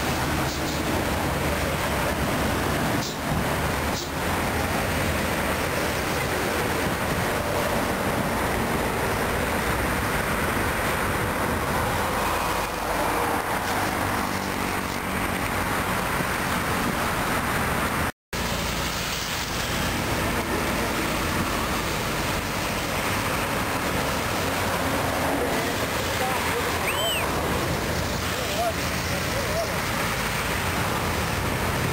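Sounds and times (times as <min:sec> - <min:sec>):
highway traffic passing: 0:00.0 - 0:31.9.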